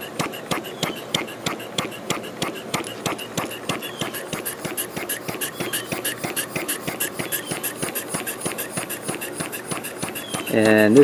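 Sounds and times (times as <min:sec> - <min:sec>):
steam engine exhaust pulses: 0:00.0 - 0:11.0
valve clicks: 0:00.0 - 0:11.0.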